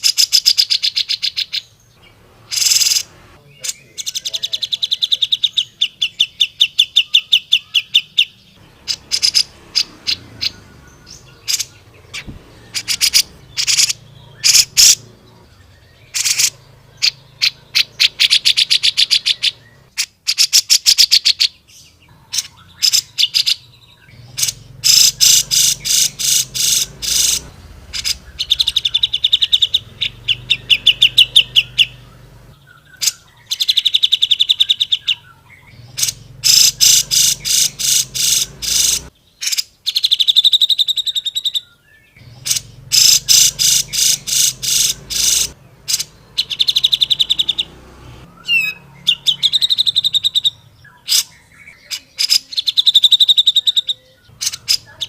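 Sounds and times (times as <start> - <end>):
bulbul singing fast trills: 0.0 - 55.0.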